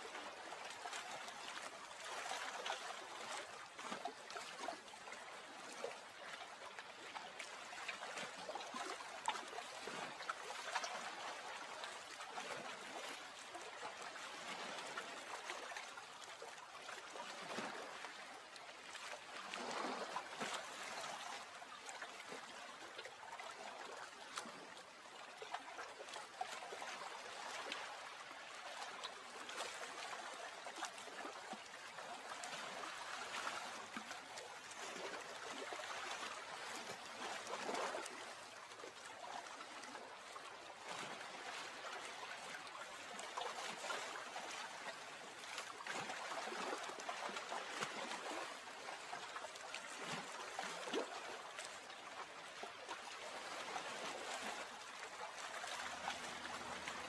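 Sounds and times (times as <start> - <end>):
lake water lapping: 0.0 - 57.0
small splashes and drips: 0.0 - 57.0.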